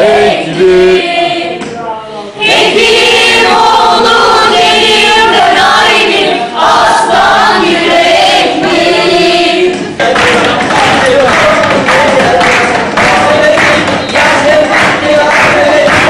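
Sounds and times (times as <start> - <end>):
group singing together: 0.0 - 16.0.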